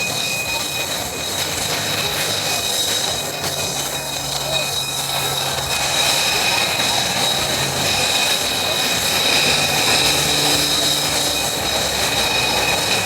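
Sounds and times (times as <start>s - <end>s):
jet engine whine: 0.0s - 13.0s
rushing noise: 0.0s - 13.0s.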